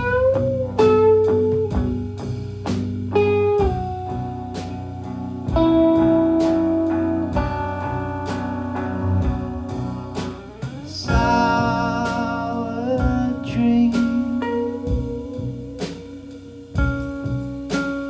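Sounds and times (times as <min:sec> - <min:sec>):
guitar playing: 0:00.0 - 0:18.0
regular drum beat: 0:00.0 - 0:18.0.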